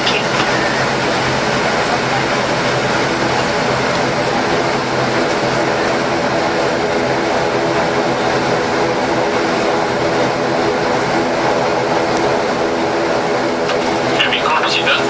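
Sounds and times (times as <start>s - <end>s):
turboprop engines droning: 0.0s - 15.0s.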